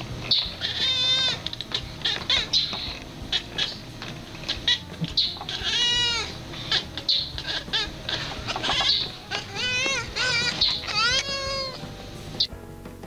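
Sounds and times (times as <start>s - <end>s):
cat chattering: 0.0s - 12.0s.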